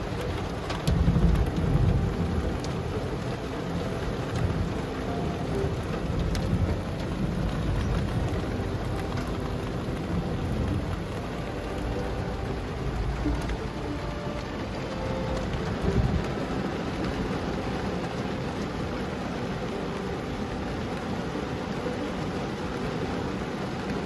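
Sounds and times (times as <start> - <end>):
heavy rain drumming on car roof: 0.0 - 24.0.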